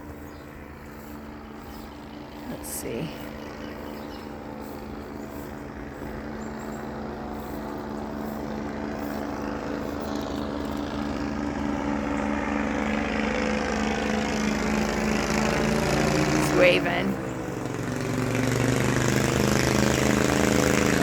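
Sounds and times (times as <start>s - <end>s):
small aircraft engine and propeller: 0.0s - 21.0s.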